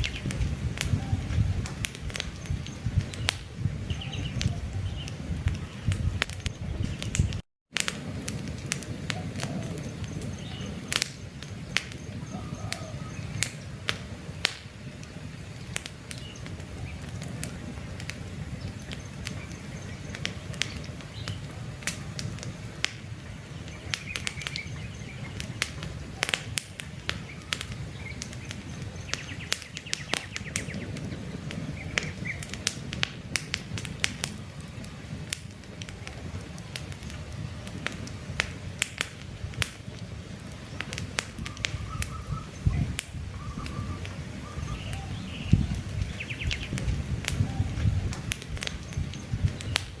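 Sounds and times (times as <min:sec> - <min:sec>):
small birds chirping: 0:00.0 - 0:07.4, 0:08.8 - 0:32.8, 0:40.6 - 0:50.0
campfire crackling and popping: 0:00.0 - 0:50.0.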